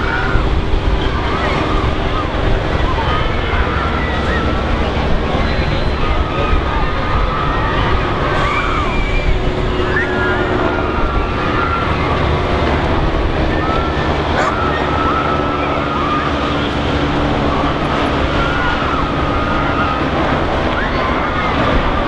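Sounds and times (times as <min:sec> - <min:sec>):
murmur of outdoor crowd: 0:00.0 - 0:22.0
wind on microphone: 0:00.0 - 0:22.0.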